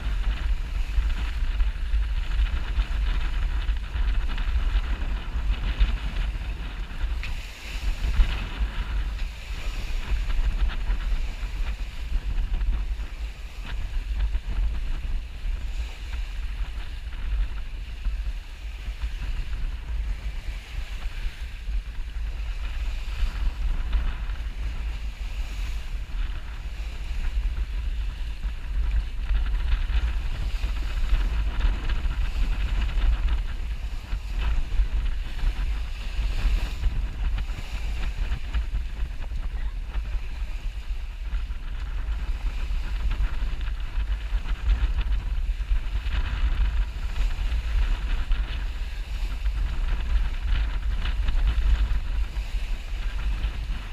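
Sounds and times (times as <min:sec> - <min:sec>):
water rushing past a hull: 0:00.0 - 0:53.9
wind buffeting the microphone: 0:00.0 - 0:53.9.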